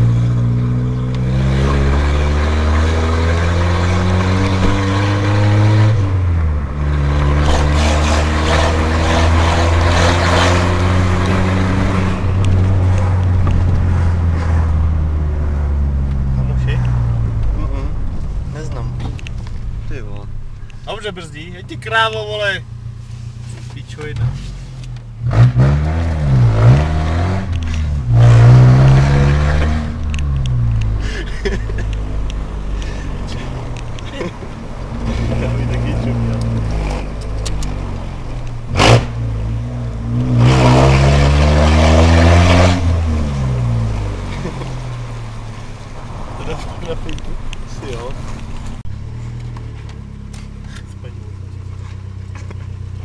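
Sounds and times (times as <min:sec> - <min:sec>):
car engine running: 0:00.0 - 0:53.0
road and wind noise: 0:00.0 - 0:53.0.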